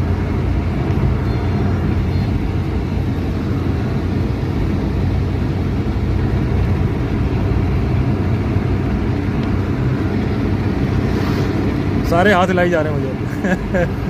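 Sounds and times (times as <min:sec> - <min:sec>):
road noise inside car: 0:00.0 - 0:14.0.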